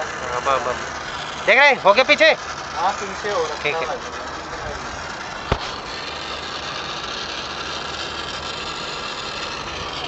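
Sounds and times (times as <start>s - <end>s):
torch hissing: 0.0s - 10.0s.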